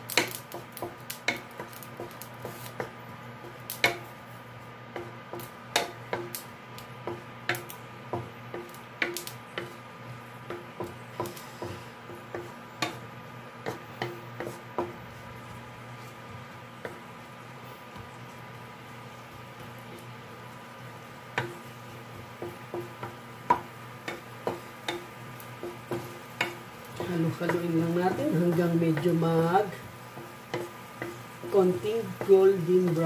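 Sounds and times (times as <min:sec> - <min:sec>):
spatula scraping and knocking wok: 0:00.0 - 0:33.0.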